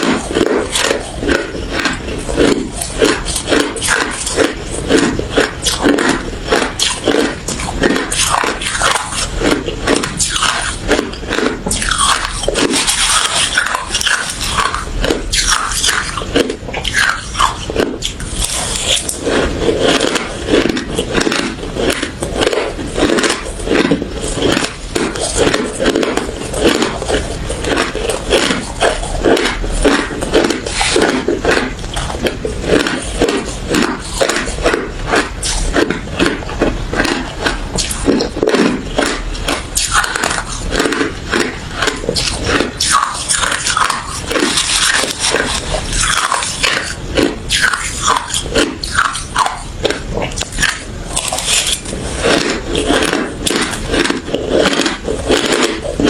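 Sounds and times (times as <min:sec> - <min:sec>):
person chewing crushed ice: 0:00.0 - 0:56.0.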